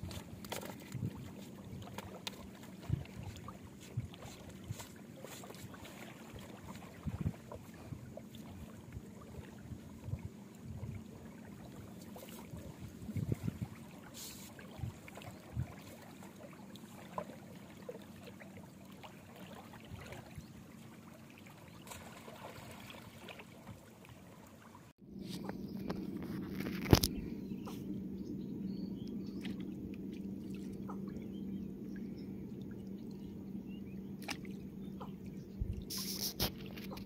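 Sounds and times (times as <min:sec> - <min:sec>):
trickling water: 0:00.0 - 0:25.0, 0:29.0 - 0:37.0.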